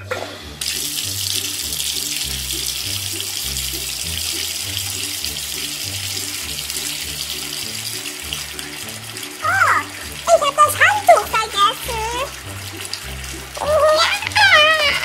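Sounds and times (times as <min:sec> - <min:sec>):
background music with bass line: 0:00.0 - 0:10.3, 0:11.9 - 0:14.1
tap water running into bathtub: 0:00.0 - 0:15.0.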